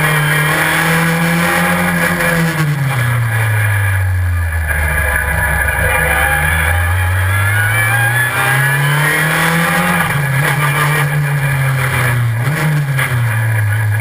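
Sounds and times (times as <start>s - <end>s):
gear shifting up: 0.0s - 14.0s
race car engine accelerating: 0.0s - 14.0s.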